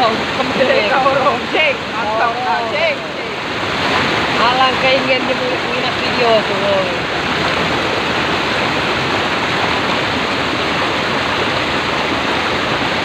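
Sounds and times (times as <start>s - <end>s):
river water rushing through slats: 0.0s - 13.0s.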